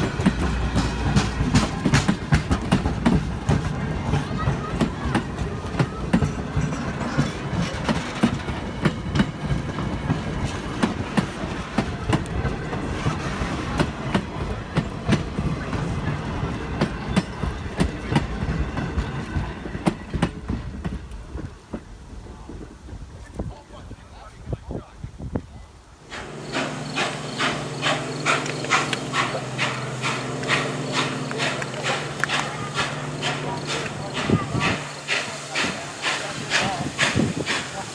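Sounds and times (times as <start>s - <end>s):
steam locomotive chuffing: 0.0s - 23.4s, 26.0s - 37.9s
wheels clicking over rail joints: 0.0s - 23.5s, 26.1s - 37.9s
train rumbling: 0.0s - 37.9s.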